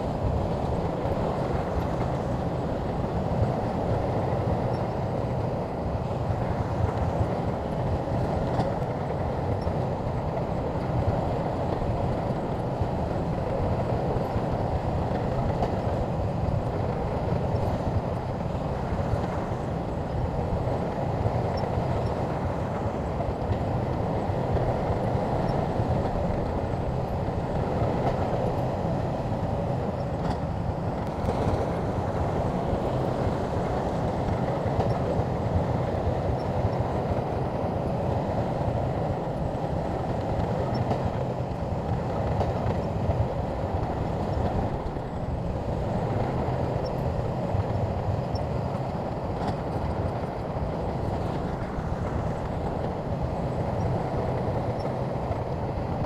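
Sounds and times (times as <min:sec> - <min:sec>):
bulldozer engine and tracks rumbling: 0:00.0 - 0:56.0.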